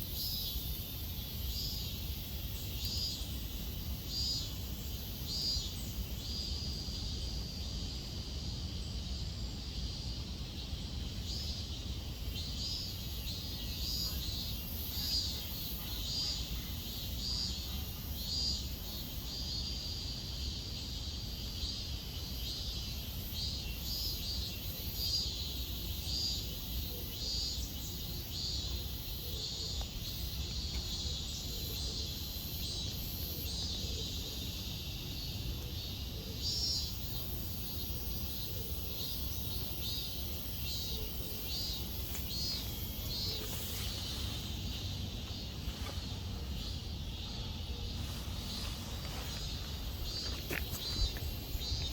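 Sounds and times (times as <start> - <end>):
cicadas singing: 0.0 - 51.9.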